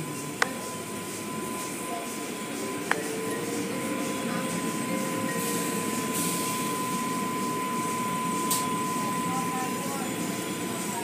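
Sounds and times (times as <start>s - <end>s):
thin high tone: 0.0s - 11.0s.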